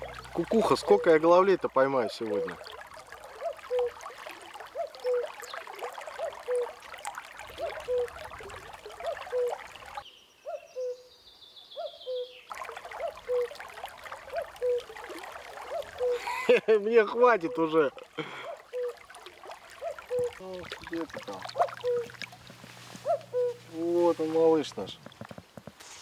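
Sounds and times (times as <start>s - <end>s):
cuckoo calling: 0.0s - 1.3s, 2.1s - 11.2s, 11.8s - 16.6s, 17.2s - 22.4s, 23.0s - 24.1s.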